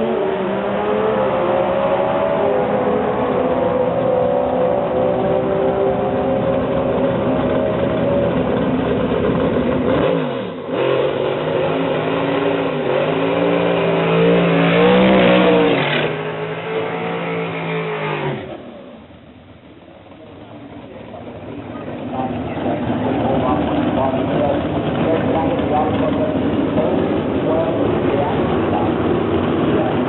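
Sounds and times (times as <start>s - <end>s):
racing engine revving: 0.0s - 19.2s, 21.0s - 30.0s.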